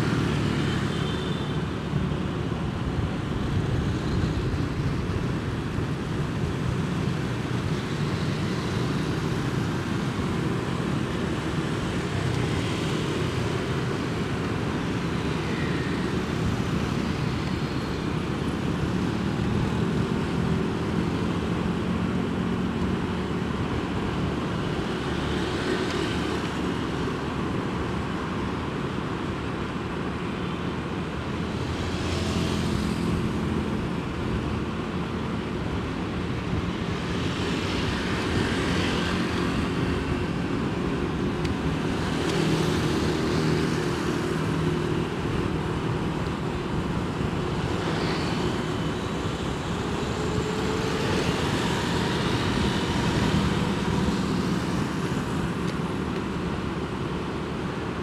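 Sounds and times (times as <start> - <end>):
passing vehicles: 0.0 - 58.0.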